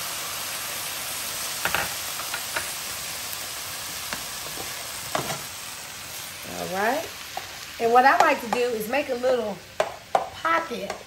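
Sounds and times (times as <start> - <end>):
stir fry sizzling in a skillet: 0.0 - 11.0.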